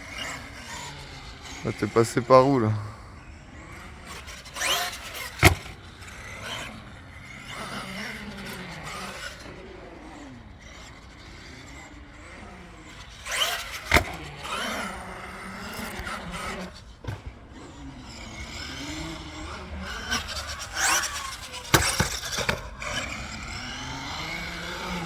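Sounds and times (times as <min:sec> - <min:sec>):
electric motors whining: 0:00.0 - 0:25.0
tyre noise: 0:00.0 - 0:25.0.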